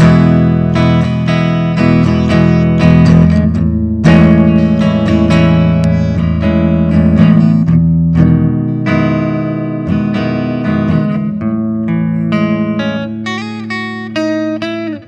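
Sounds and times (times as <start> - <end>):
guitar notes and chords: 0.0 - 15.0.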